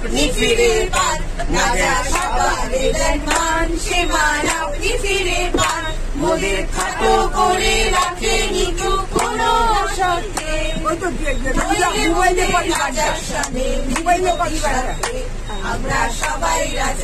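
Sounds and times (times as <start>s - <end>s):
low rumble of moving bus: 0.0s - 17.0s
passengers singing together: 0.0s - 17.0s.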